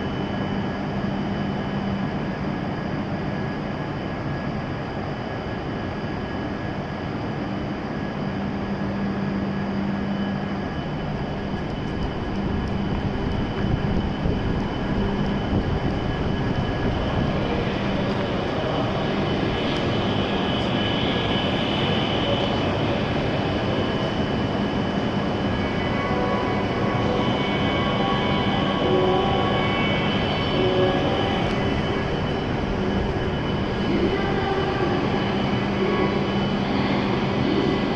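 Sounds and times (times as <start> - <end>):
train mechanical hum: 0.0 - 37.9.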